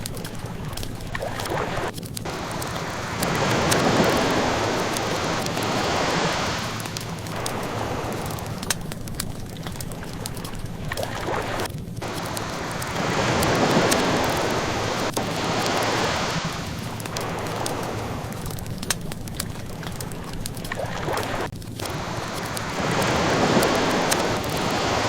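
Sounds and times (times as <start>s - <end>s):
ocean waves washing: 0.0s - 25.0s
wood fire crackling: 0.0s - 25.0s.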